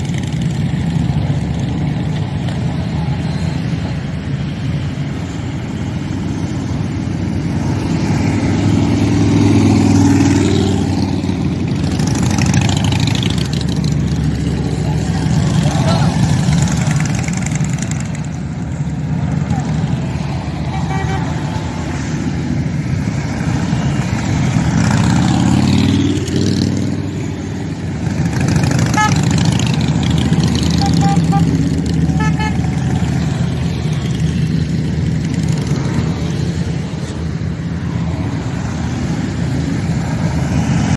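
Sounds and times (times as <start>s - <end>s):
motorcycle engines rumbling: 0.0s - 40.9s.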